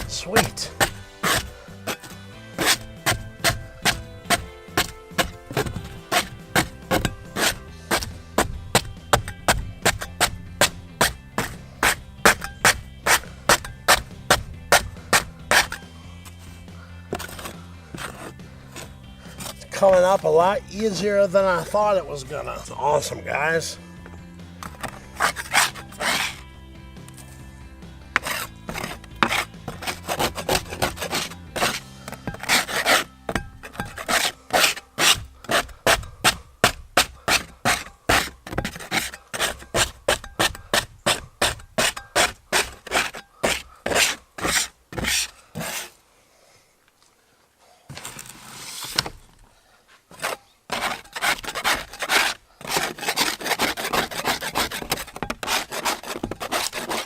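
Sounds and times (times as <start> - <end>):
metal scraper scraping carpet: 0.0 - 16.4, 17.1 - 20.0, 24.6 - 26.4, 28.1 - 46.0, 50.1 - 57.0.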